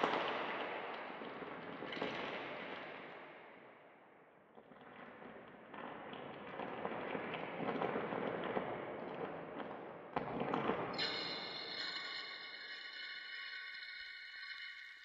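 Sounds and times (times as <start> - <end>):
crackling and popping noise: 0.0 - 3.4, 4.5 - 15.0.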